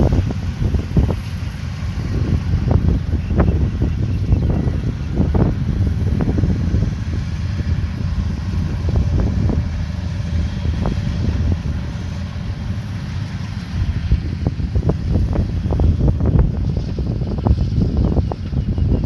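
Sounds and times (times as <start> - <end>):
combine harvester rumbling: 0.0 - 19.0
wind buffeting microphone: 0.0 - 19.0.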